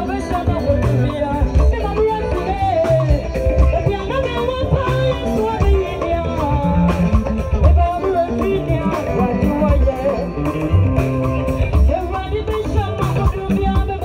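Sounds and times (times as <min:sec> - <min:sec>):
live band playing gospel music: 0:00.0 - 0:14.0.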